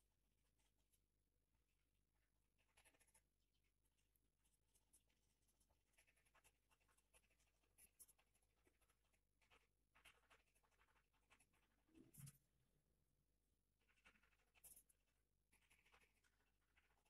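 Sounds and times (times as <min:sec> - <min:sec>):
faint clicks and scratches: 0:00.0 - 0:17.0.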